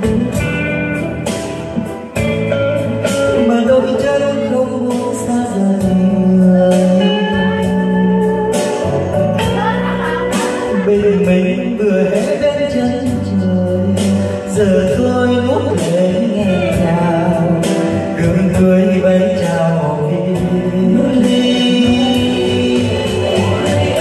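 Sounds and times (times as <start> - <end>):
backing music: 0.0 - 24.0
man singing into microphone: 3.0 - 24.0.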